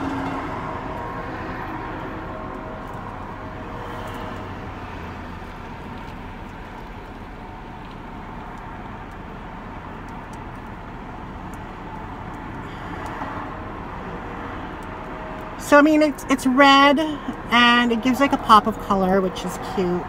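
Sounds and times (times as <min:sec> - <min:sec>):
low hum in car cabin: 0:00.0 - 0:20.0.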